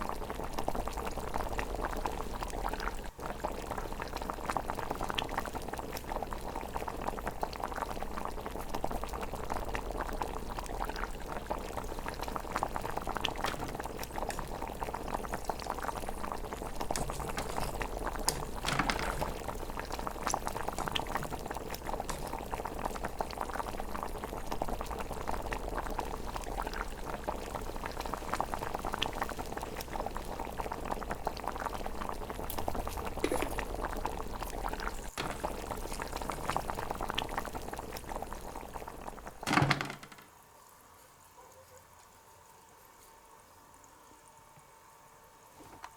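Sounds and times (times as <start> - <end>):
pot simmering bubbling and popping: 0.0 - 40.4.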